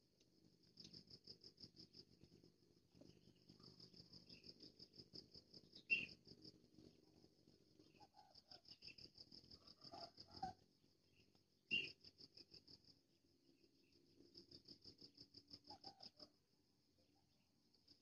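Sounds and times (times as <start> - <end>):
insects chirring: 0.4 - 16.5.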